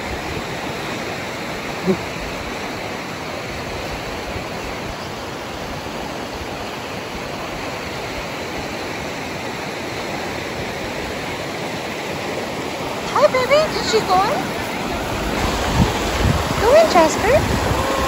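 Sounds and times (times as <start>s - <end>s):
creek rushing over rocks: 0.0s - 18.0s.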